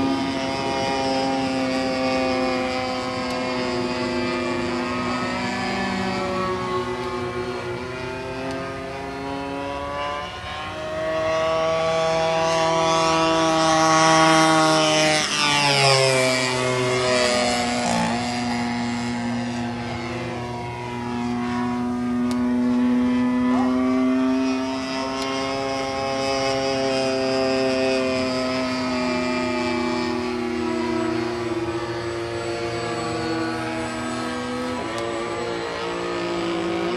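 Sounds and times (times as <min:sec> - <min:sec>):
model airplane engine droning: 0:00.0 - 0:36.9.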